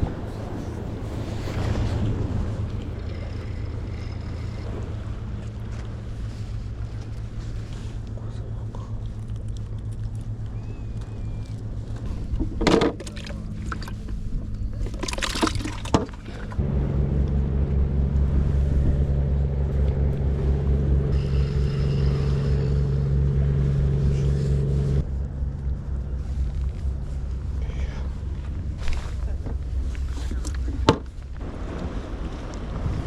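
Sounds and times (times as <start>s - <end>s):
motor engine humming: 0.0s - 33.0s
rustling or splashing: 0.0s - 33.0s.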